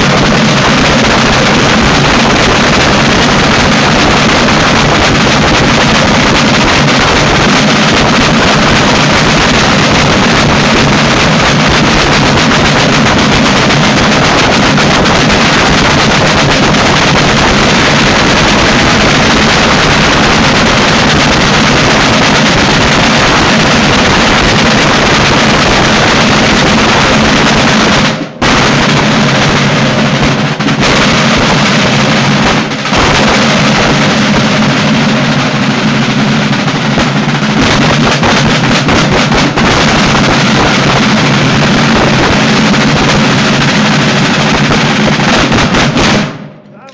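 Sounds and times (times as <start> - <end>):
drums in a fast drum roll: 0.0 - 46.9.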